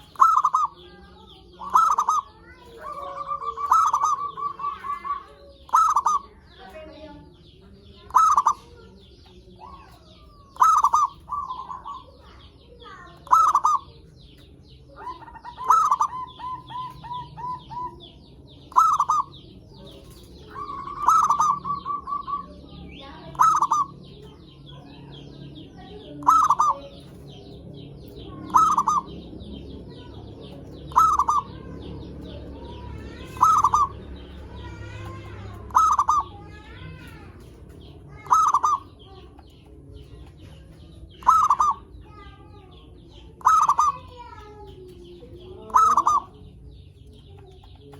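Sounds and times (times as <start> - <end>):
dove cooing: 0.0 - 7.0, 7.9 - 46.8
small birds chirping: 0.0 - 47.9.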